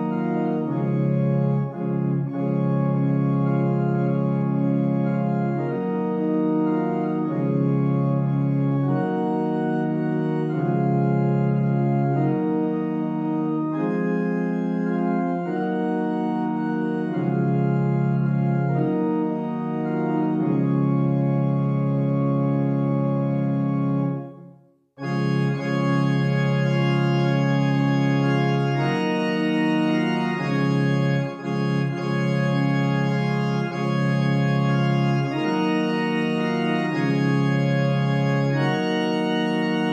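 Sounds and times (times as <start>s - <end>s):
pipe organ sustained chords: 0.0s - 39.9s.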